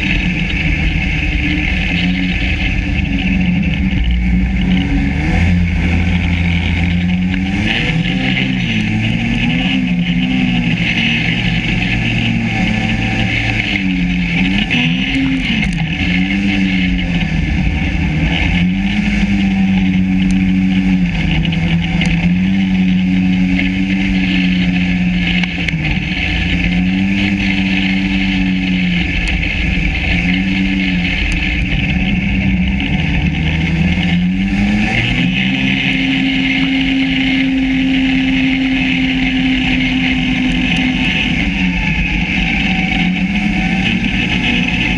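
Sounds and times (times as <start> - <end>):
snowmobile engine running: 0.0 - 44.9.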